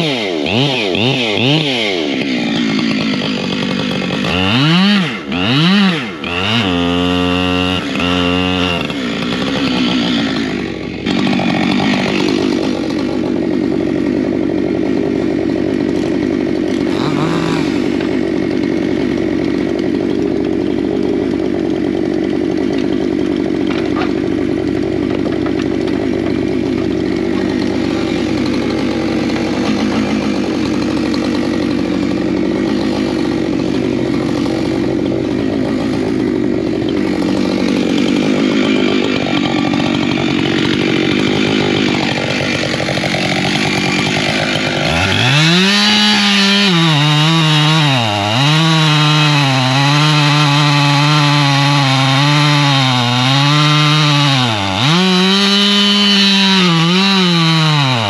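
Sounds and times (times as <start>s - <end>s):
chainsaws cutting logs: 0.0s - 58.0s.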